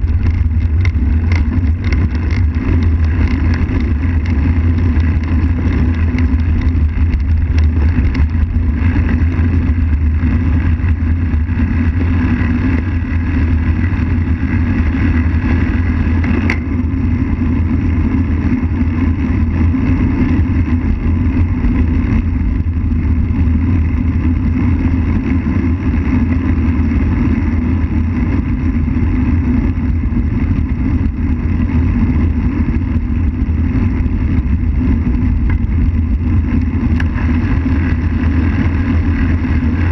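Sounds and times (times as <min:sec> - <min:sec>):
tyres rolling on asphalt: 0:00.0 - 0:39.9
wind buffeting microphone: 0:00.0 - 0:39.9.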